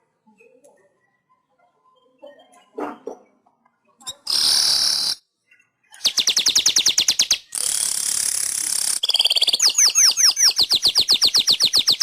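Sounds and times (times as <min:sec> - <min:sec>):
bird singing: 0:00.3 - 0:07.8, 0:09.0 - 0:12.0.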